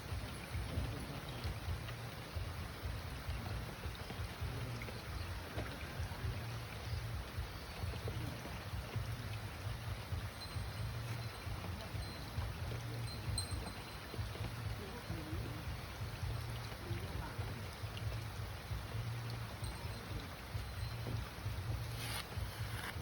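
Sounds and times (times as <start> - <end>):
light rain: 0.0 - 23.0.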